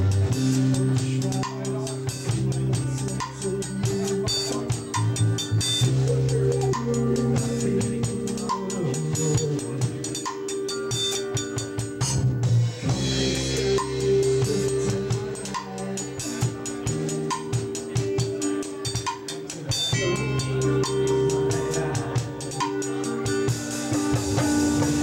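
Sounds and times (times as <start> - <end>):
drum kit hits: 0.0 - 25.0
rock band playing: 0.0 - 25.0.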